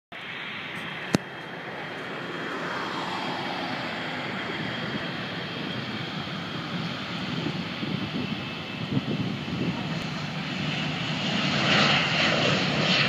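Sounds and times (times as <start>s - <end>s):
jet engines rushing: 0.1s - 13.0s.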